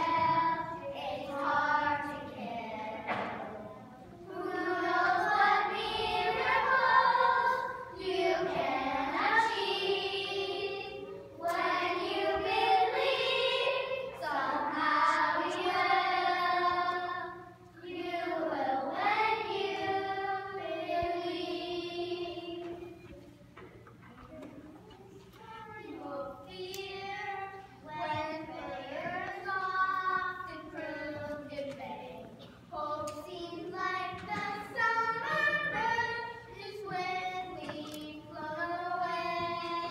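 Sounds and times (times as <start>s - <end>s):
children singing together: 0.0s - 23.2s, 25.4s - 39.9s.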